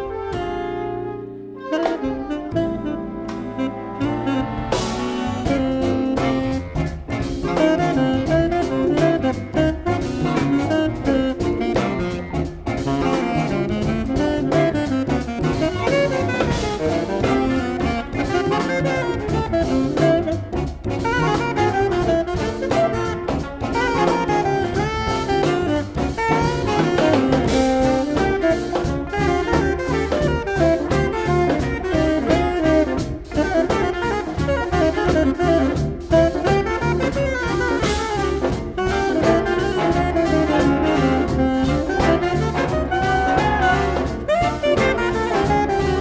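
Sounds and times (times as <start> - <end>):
big band jazz: 0.0 - 46.0.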